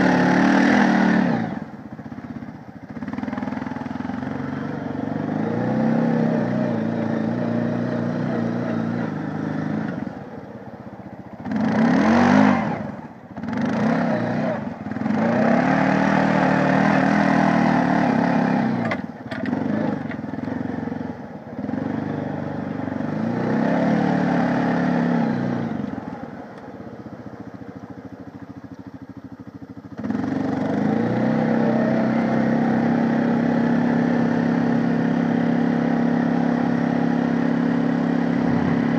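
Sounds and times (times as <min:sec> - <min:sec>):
quad bike engine revving: 0:00.0 - 0:38.9.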